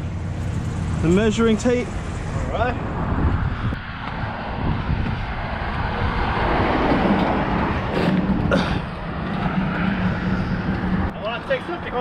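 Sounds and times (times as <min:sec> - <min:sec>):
road traffic passing: 0:00.0 - 0:12.0
vehicle engine drone: 0:00.0 - 0:12.0.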